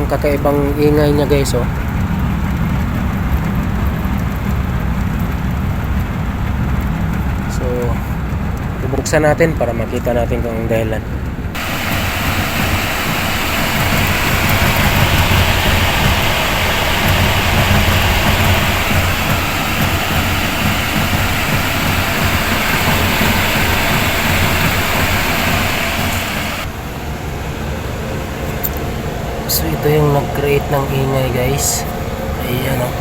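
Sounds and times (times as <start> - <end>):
air conditioner rough rumble: 0.0 - 33.0.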